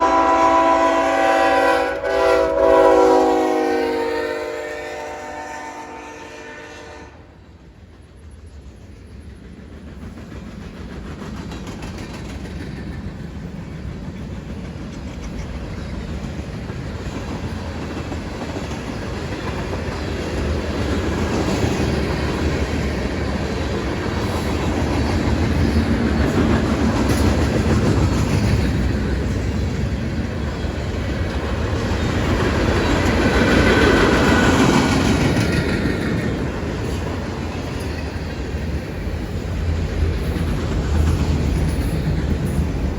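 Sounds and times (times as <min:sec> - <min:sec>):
freight train passing: 0:00.0 - 0:42.9.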